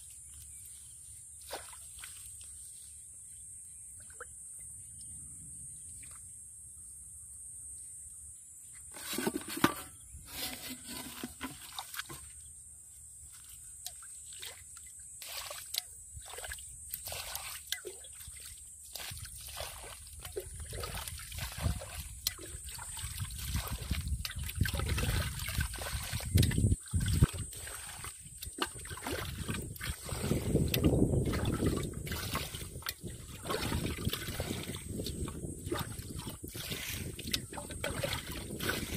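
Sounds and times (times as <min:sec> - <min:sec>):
muddy water sloshing and splashing: 0:00.2 - 0:03.0, 0:04.0 - 0:04.3, 0:08.9 - 0:12.5, 0:13.2 - 0:38.9.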